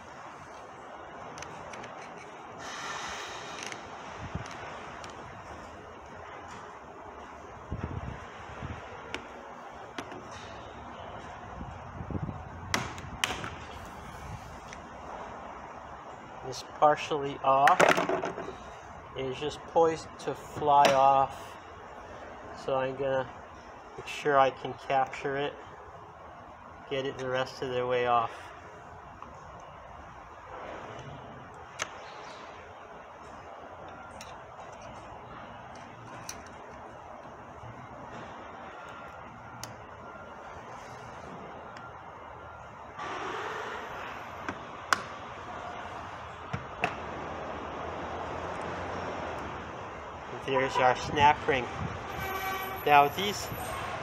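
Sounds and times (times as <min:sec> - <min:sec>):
steady background noise: 0:00.0 - 0:54.0.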